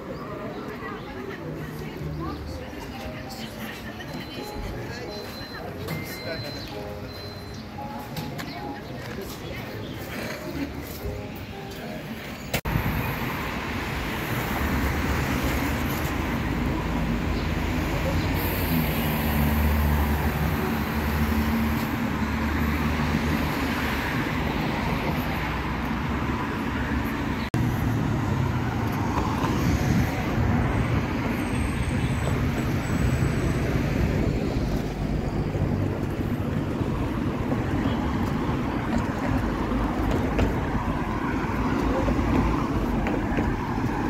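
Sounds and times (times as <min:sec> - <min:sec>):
passing cars: 0:00.0 - 0:44.0.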